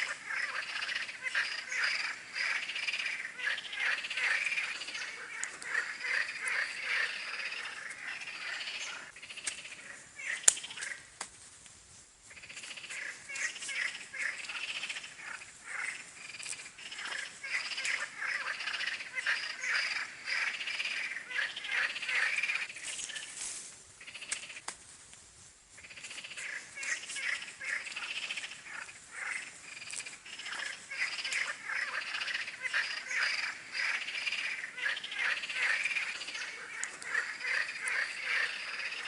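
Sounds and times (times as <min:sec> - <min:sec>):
frogs croaking: 0:00.0 - 0:11.1, 0:12.2 - 0:23.4, 0:24.0 - 0:24.7, 0:25.7 - 0:39.0.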